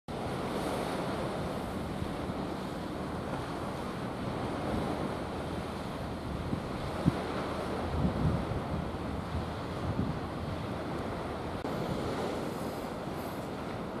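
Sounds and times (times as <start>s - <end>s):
sea surf washing onto shore: 0.1s - 14.0s
wind buffeting microphone: 0.1s - 14.0s.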